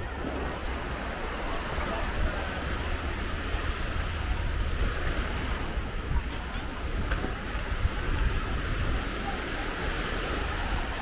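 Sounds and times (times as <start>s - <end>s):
surf washing on shore: 0.0s - 11.0s
wind rumbling on microphone: 0.0s - 11.0s.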